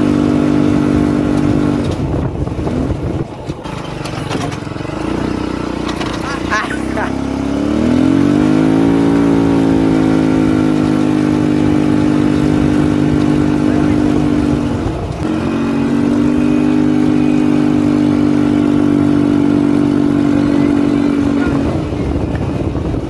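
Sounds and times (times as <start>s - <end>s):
small engine running at high speed: 0.0s - 23.0s.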